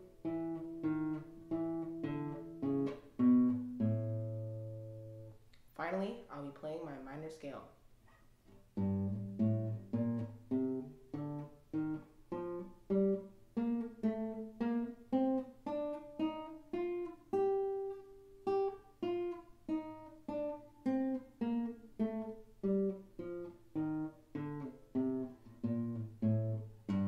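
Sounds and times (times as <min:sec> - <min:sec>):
nylon-string guitar playing scale: 0:00.0 - 0:07.6, 0:08.4 - 0:27.0.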